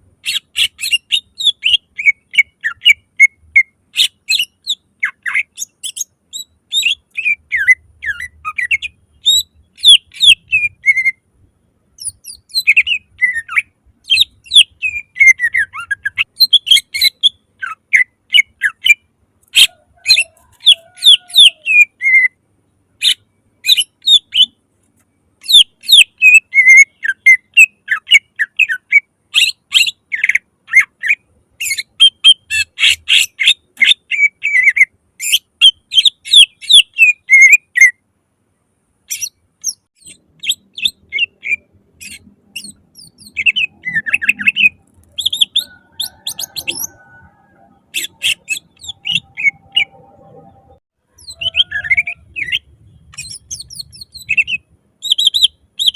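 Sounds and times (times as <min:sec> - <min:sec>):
bird chirping and whistling: 0:00.2 - 0:11.2, 0:12.0 - 0:22.4, 0:23.0 - 0:24.6, 0:25.4 - 0:37.9, 0:39.1 - 0:50.6, 0:51.2 - 0:55.9.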